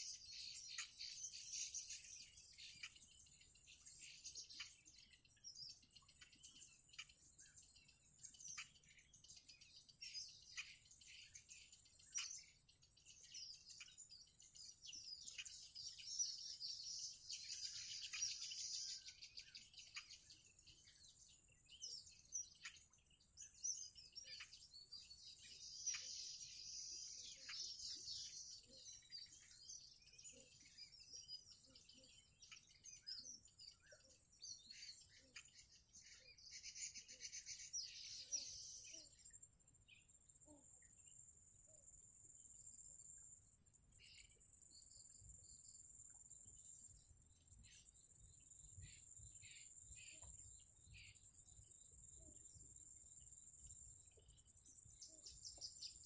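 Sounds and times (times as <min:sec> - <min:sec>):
insect high-pitched trill: 0:00.0 - 0:56.0
small bird chirps: 0:00.0 - 0:56.0.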